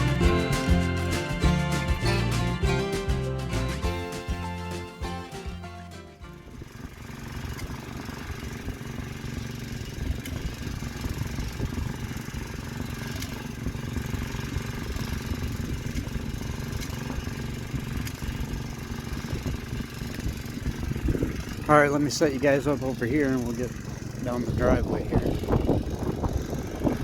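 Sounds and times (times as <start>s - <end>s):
snowblower engine running: 0.0s - 27.0s.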